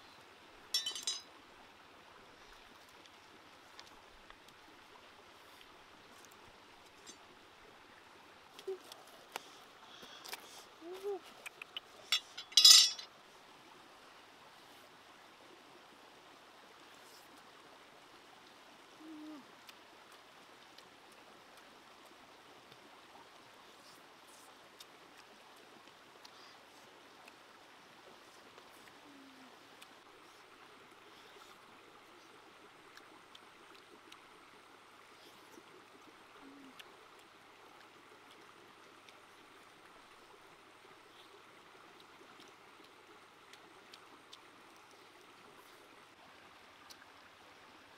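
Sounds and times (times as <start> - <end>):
stream rushing over rocks: 0.0 - 47.9.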